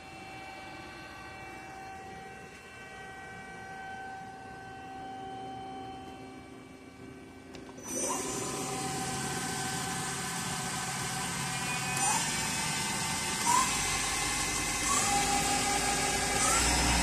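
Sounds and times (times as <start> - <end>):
machine low hum: 0.0 - 17.0
machine whir with high whine: 0.0 - 17.0.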